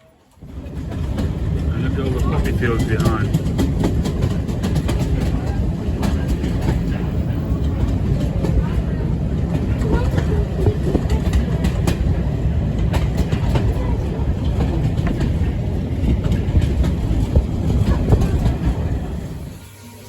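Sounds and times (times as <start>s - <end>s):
train carriage rumbling on track: 0.0s - 19.9s
wheels clicking on rails: 0.2s - 19.6s.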